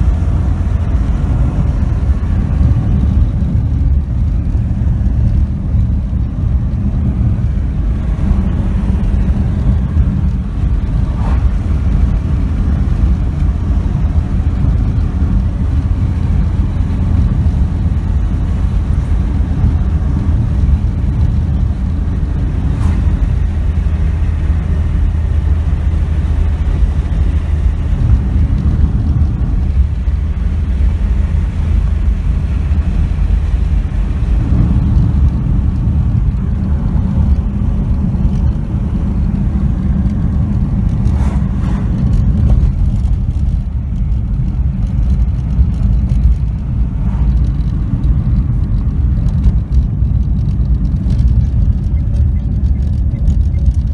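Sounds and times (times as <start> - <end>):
car engine and tyre noise: 0.0 - 53.9.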